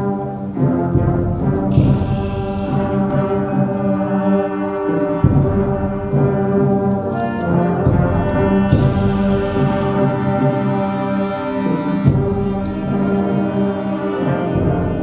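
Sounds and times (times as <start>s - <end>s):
concert band playing chords: 0.0s - 15.0s.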